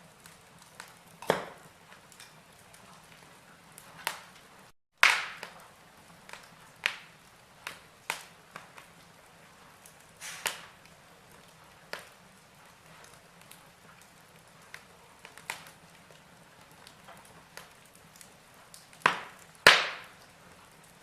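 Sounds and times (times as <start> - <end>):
faint steady hiss: 0.0 - 21.0
log fire crackling and popping: 0.0 - 21.0.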